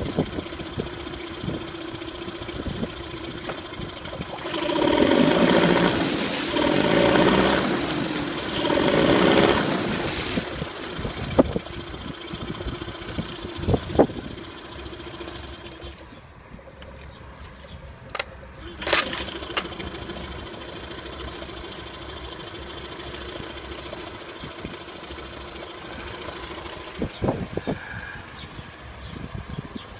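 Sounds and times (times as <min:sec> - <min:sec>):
outboard motor running: 0:00.0 - 0:16.2, 0:18.6 - 0:27.6.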